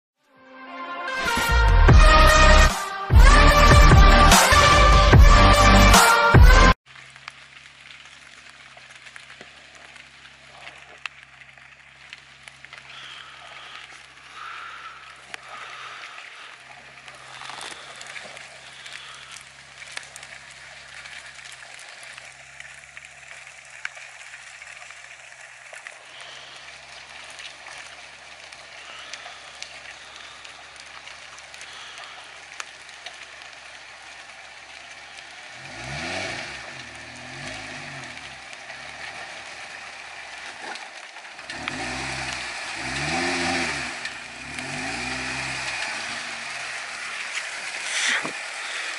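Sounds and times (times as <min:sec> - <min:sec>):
light rain pattering on leaves: 0:06.8 - 0:48.9
water drips: 0:06.8 - 0:48.9
faint car engine idling: 0:07.0 - 0:48.9.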